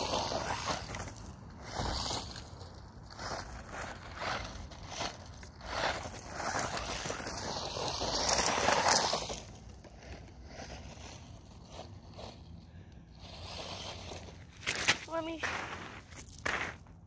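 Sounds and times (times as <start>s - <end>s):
rc car tyres crunching on gravel: 0.0s - 17.0s.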